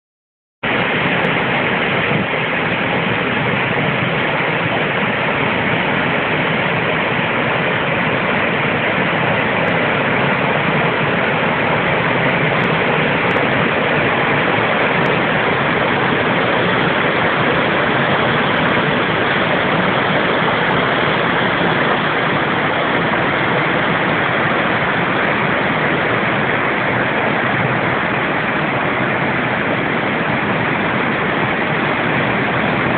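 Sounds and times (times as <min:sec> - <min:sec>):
waterfall rushing: 0:00.6 - 0:32.9.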